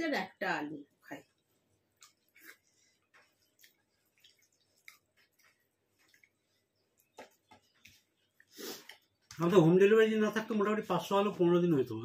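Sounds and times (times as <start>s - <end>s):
people eating by hand: 1.2s - 12.0s.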